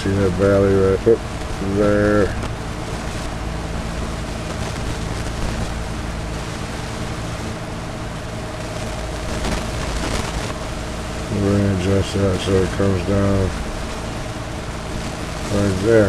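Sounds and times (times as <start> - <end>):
low hum: 0.0 - 16.0
steady hiss: 0.0 - 16.0
steady radio test tone: 0.0 - 16.0.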